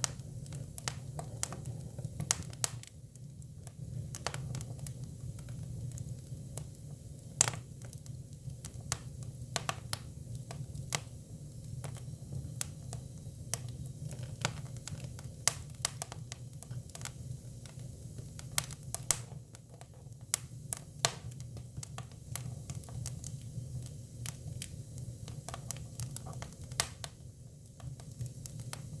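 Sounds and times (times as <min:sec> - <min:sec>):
fire low rumble: 0:00.0 - 0:29.0
firewood crackling and popping: 0:00.0 - 0:29.0.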